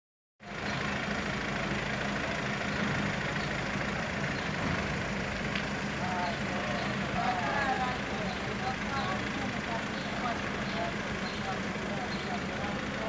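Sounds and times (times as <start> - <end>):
street noise: 0.4 - 13.0
van engine idling: 0.4 - 13.0.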